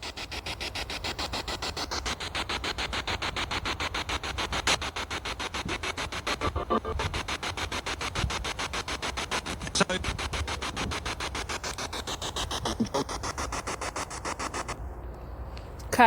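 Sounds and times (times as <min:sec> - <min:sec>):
pulsing radio static: 0:00.0 - 0:14.8.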